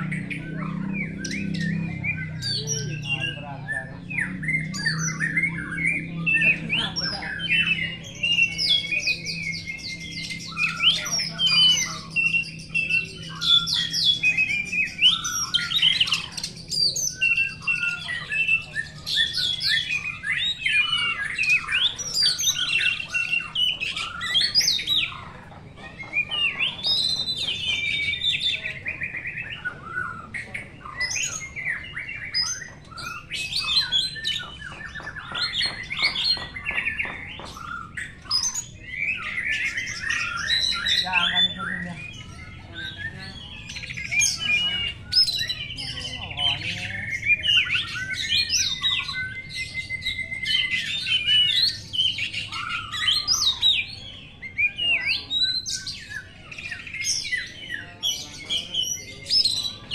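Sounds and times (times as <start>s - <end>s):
birds singing whistled phrases: 0.0s - 59.9s.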